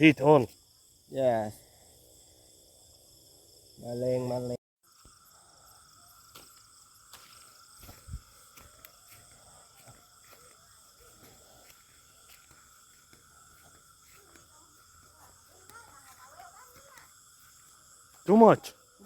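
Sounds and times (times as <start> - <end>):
insect trills: 0.0 - 19.0.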